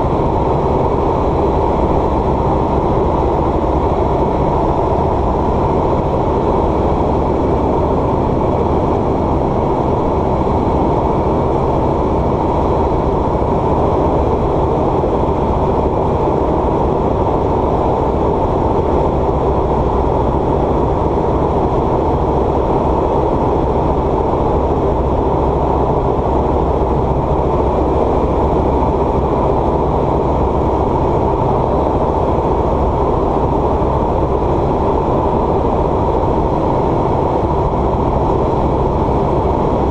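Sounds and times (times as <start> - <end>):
aircraft propeller engine drone: 0.0 - 39.9.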